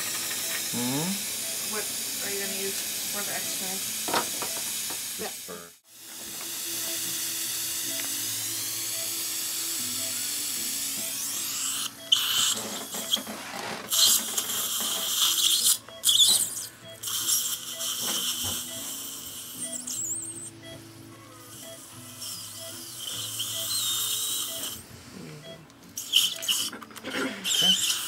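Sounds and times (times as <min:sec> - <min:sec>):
dental drill whine and water hiss: 0:00.0 - 0:13.2, 0:13.9 - 0:20.6, 0:21.4 - 0:24.8, 0:26.0 - 0:26.8, 0:27.4 - 0:28.0.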